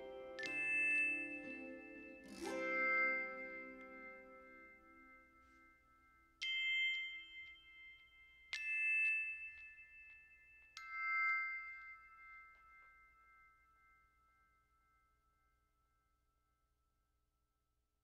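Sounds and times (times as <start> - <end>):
bell-like chime notes: 0.0 - 15.2.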